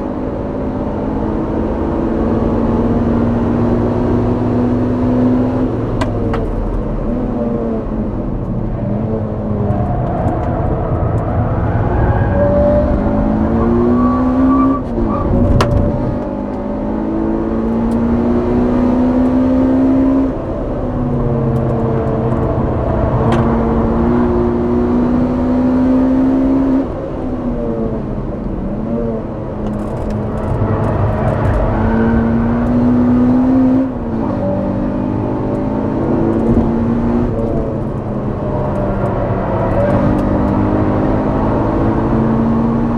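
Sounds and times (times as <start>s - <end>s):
car engine revving at full throttle: 0.0s - 42.9s.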